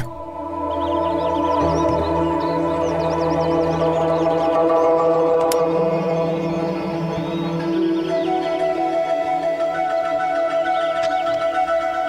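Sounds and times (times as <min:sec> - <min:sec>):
soft wavering melody: 0:00.0 - 0:12.0.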